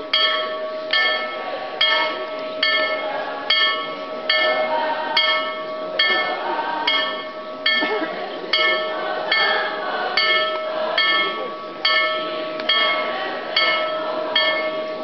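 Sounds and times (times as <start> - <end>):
bell ringing: 0.0 - 15.0.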